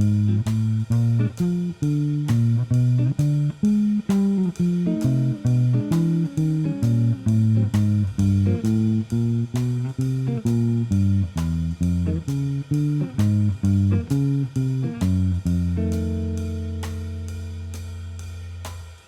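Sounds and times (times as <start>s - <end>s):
guitar walking bass blues: 0.0s - 17.9s.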